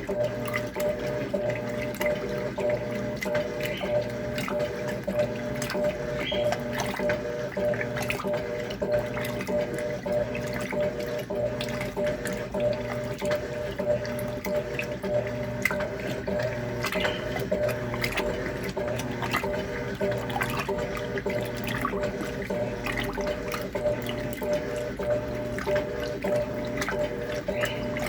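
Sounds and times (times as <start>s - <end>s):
agitator low hum: 0.0s - 28.0s
washing machine motor hum: 0.0s - 28.0s
water sloshing and splashing: 0.0s - 28.0s.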